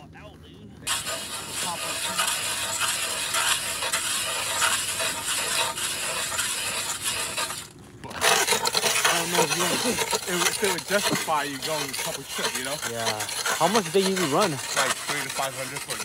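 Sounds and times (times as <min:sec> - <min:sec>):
ice auger grinding through ice: 0:00.9 - 0:16.0.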